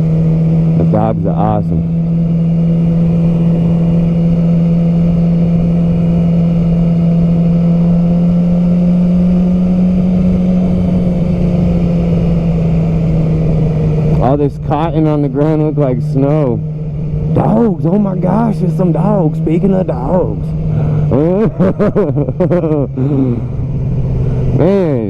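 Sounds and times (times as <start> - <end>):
motorcycle engine cruising: 0.0 - 25.0.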